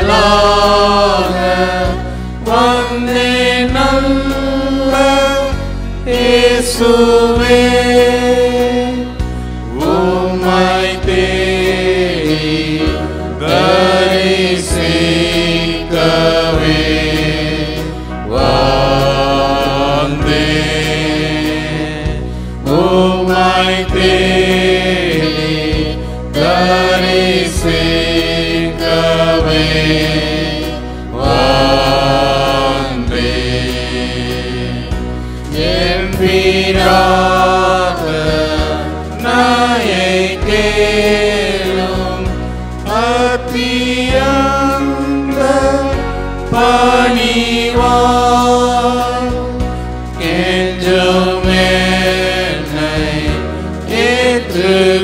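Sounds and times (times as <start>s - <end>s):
electronic keyboard chords: 0.0s - 55.0s
group singing a hymn: 0.0s - 55.0s.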